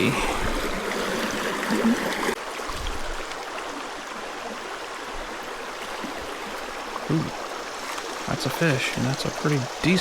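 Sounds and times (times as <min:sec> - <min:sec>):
creek water babbling over rocks: 0:00.0 - 0:10.0.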